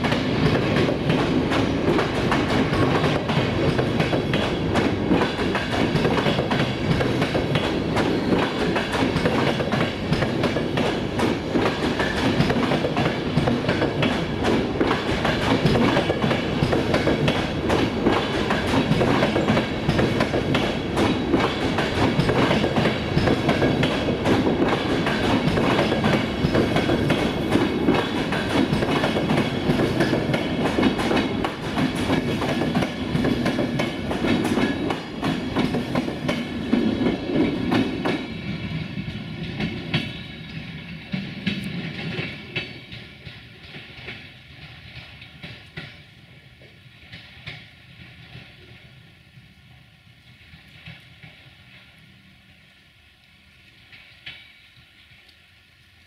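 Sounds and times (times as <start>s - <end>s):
train wheels clattering over rails: 0.0s - 48.9s.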